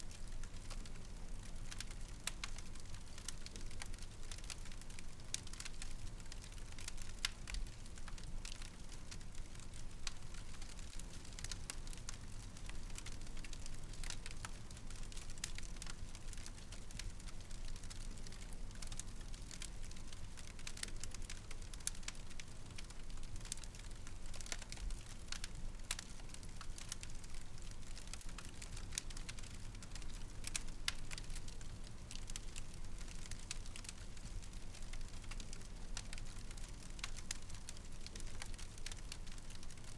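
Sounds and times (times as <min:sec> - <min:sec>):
fire crackling and popping: 0:00.1 - 0:39.9.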